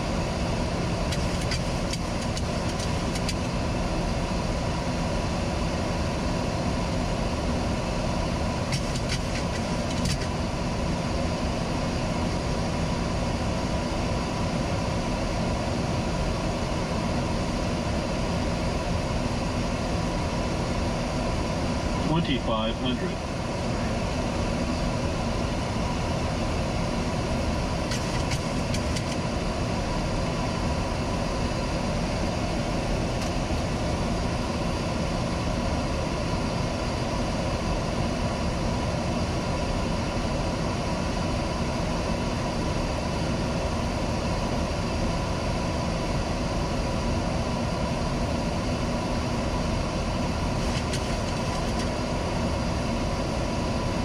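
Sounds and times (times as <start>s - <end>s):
engine and air-conditioning hum: 0.0s - 54.0s.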